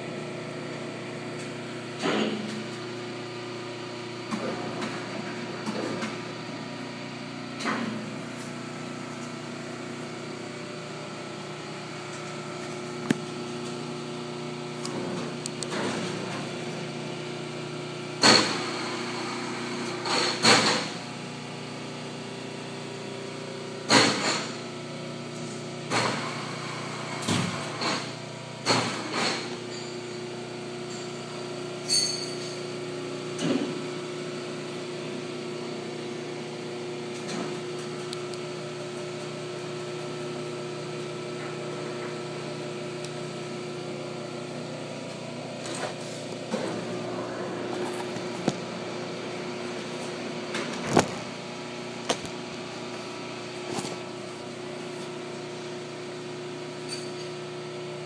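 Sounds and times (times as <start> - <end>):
steady machine hum: 0.0 - 58.0.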